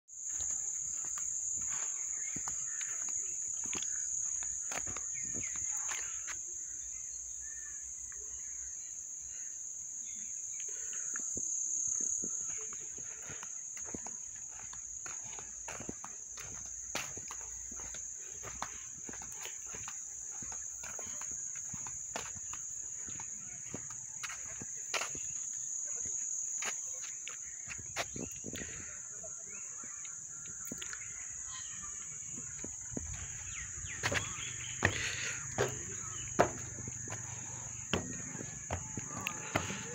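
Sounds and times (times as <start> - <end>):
insects chirring: 0.1 - 39.9.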